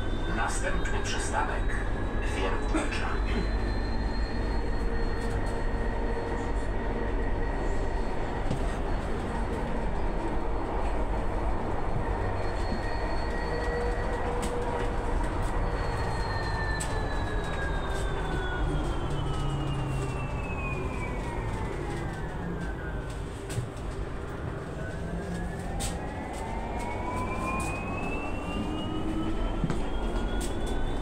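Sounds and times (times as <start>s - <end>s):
electric bus motor whine: 0.0s - 31.0s.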